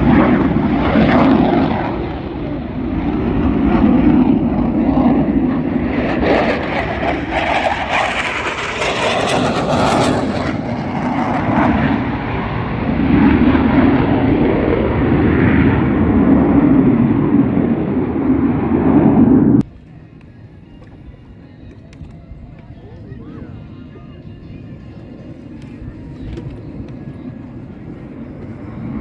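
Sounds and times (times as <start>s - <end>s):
airplane engine roar flying past: 0.0s - 29.0s.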